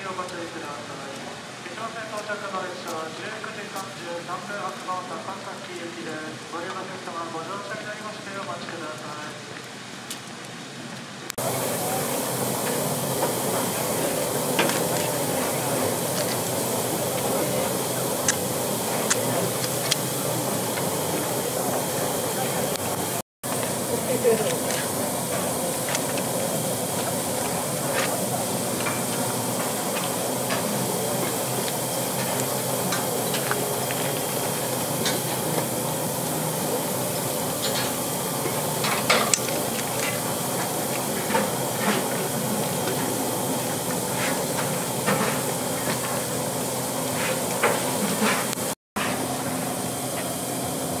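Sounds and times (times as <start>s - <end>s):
steam locomotive hissing: 0.0s - 10.0s, 11.3s - 51.0s.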